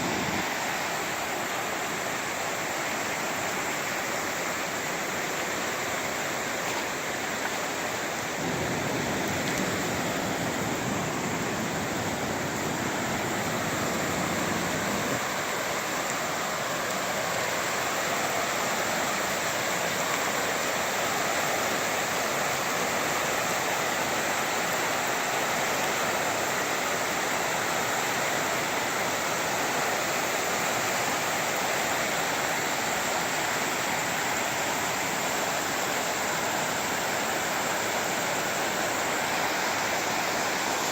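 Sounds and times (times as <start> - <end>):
creek water rushing: 0.0 - 40.9.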